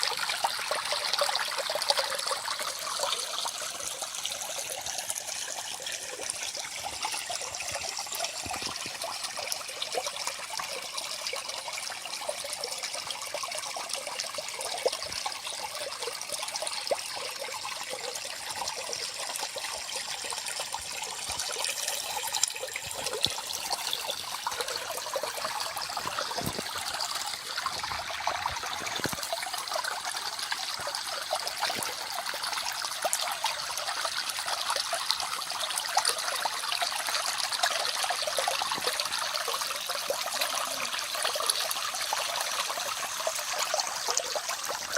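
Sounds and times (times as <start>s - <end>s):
stream babbling over stones: 0.0s - 44.9s.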